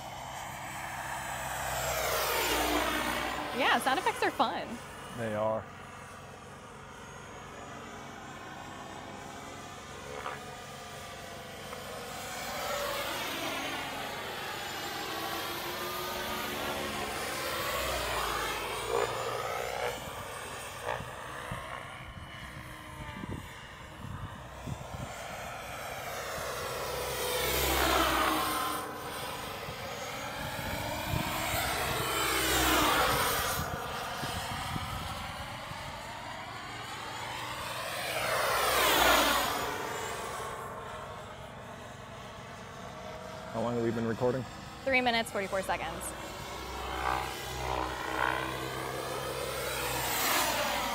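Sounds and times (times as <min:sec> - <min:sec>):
helicopter turbine whine and rotor: 0:00.0 - 0:50.9.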